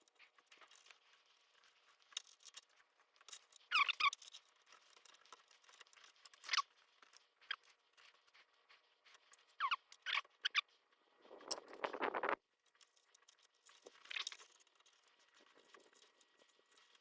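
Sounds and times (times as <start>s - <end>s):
plastic and metal squeaks and scrapes: 0.0s - 12.4s, 13.2s - 17.0s
scraping rustle: 0.0s - 17.0s.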